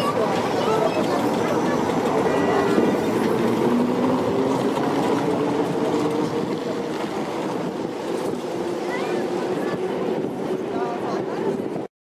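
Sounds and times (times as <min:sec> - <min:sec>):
tram wheel and motor noise: 0:00.0 - 0:11.9.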